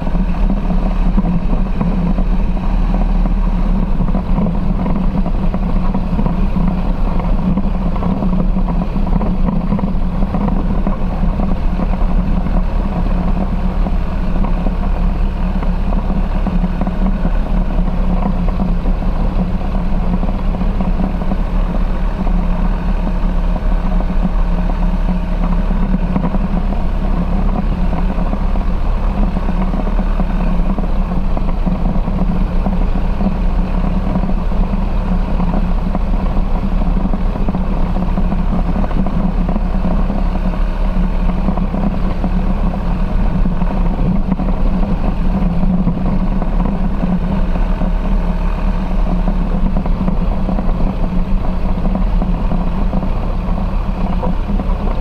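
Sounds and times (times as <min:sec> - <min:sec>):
light aircraft engine humming: 0:00.0 - 0:55.0.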